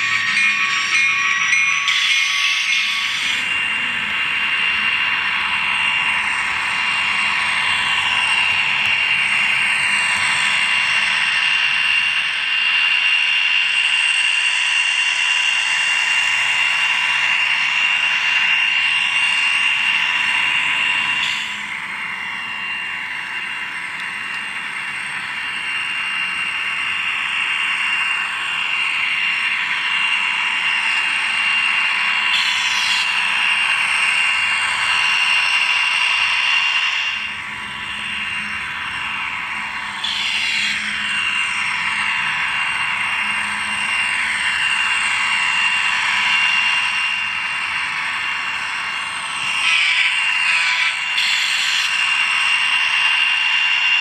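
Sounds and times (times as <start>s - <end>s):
model locomotive diesel engine sound: 0.0s - 54.0s
steady high whine: 0.0s - 54.0s.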